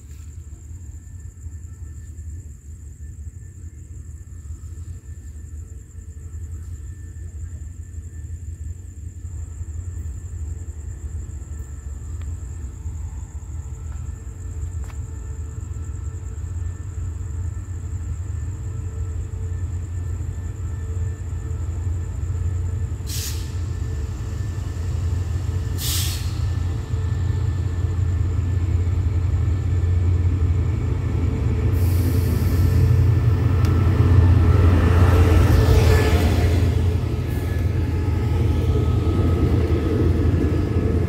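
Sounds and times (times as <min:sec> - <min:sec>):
locomotive engine rumble: 0:00.0 - 0:41.0.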